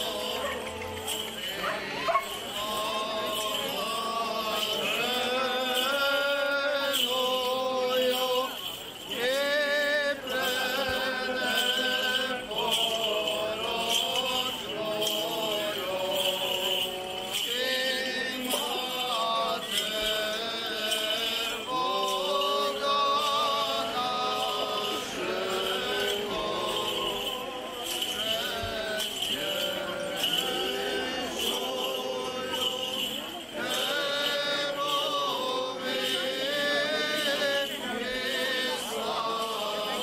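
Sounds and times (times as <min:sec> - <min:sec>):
voices chanting a hymn: 0:00.0 - 0:40.0.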